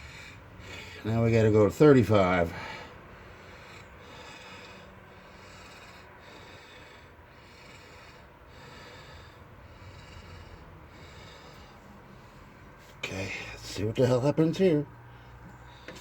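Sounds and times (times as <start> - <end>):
person breathing: 0.0 - 1.1, 2.5 - 13.6, 15.0 - 16.0.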